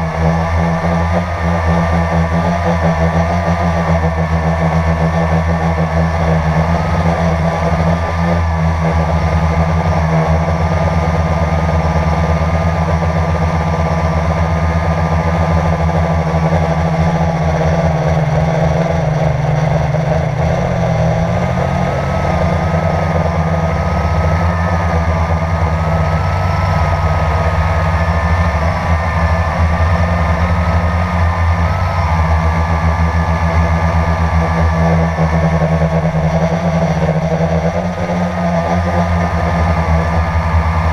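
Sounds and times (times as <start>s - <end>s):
drone propellers whirring: 0.0s - 40.9s.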